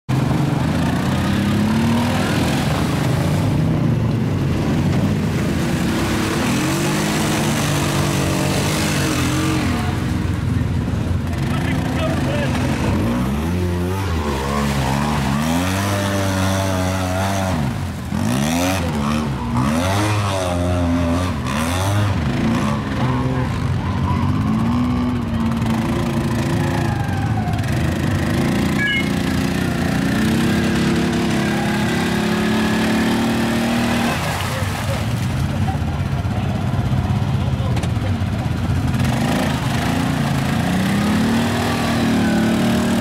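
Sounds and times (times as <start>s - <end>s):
off-road engine revving: 0.1s - 43.0s
wheels spinning in mud: 0.2s - 43.0s.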